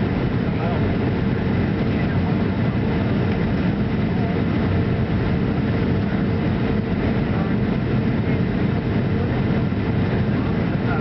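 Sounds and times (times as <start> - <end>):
jet engines in cabin: 0.0 - 11.0.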